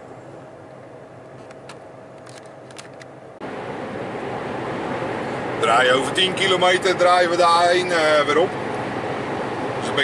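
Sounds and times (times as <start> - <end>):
truck cab engine and road noise: 0.0 - 10.0.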